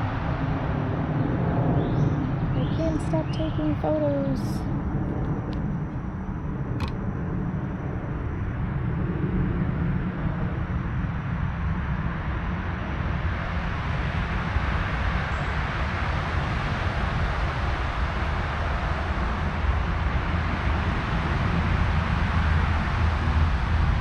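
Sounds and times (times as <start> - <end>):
road traffic rumble: 1.9 - 24.0.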